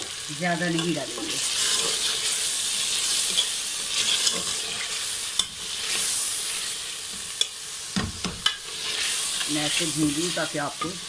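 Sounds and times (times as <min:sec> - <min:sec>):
tripe sizzling in oil: 0:00.0 - 0:11.0.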